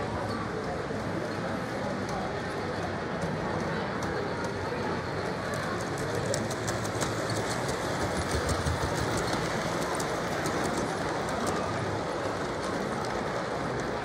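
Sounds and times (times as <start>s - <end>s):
model train rumbling: 0.0s - 14.0s
wheels clicking over rail joints: 2.0s - 14.0s.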